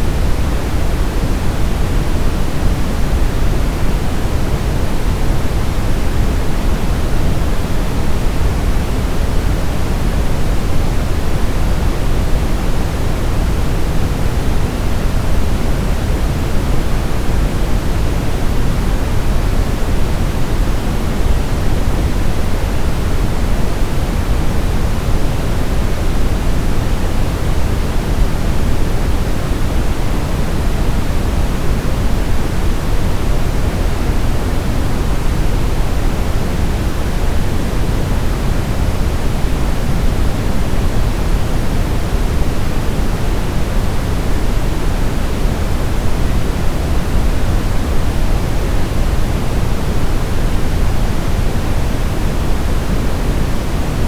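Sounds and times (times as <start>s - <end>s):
deep white noise: 0.0s - 54.0s.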